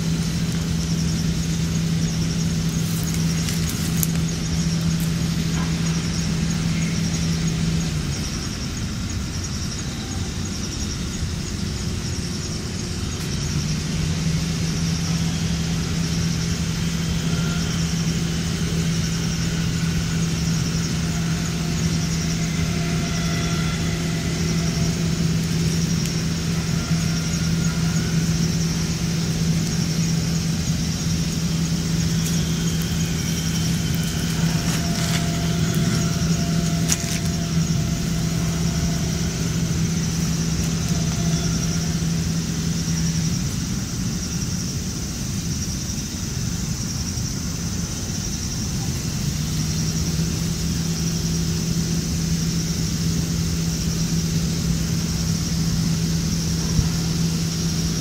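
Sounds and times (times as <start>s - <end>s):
engine idling hum: 0.0s - 58.0s.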